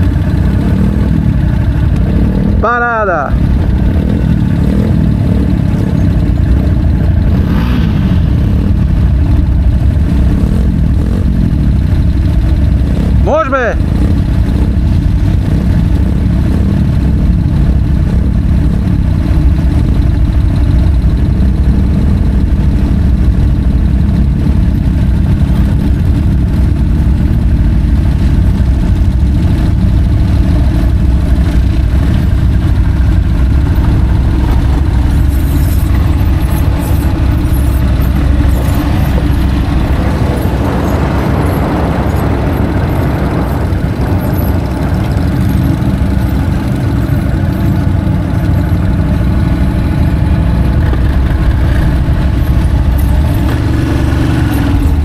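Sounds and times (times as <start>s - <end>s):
atv engine low drone: 0.0s - 55.0s.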